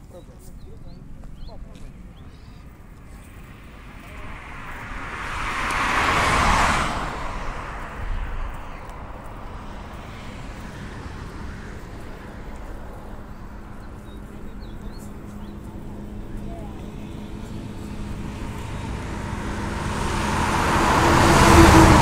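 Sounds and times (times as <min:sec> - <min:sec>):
vehicle passing by: 0:03.0 - 0:22.0.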